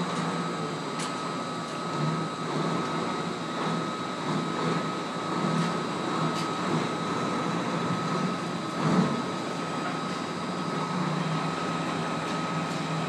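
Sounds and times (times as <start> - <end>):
thin steady whine: 0.0 - 13.0
truck diesel engine running: 0.0 - 13.0.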